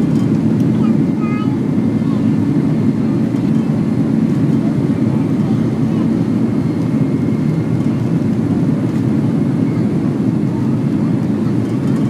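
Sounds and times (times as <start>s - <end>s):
aircraft rolling noise: 0.0s - 12.0s
jet engines rumbling in cabin: 0.0s - 12.0s.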